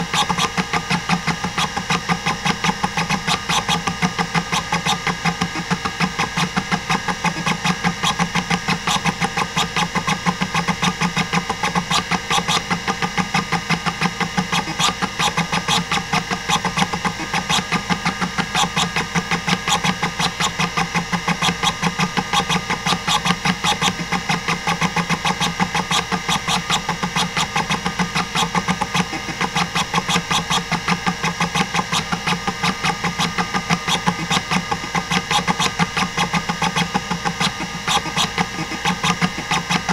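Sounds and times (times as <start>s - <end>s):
hard drive head clicks: 0.0s - 39.9s
spindle motor hum: 0.0s - 39.9s.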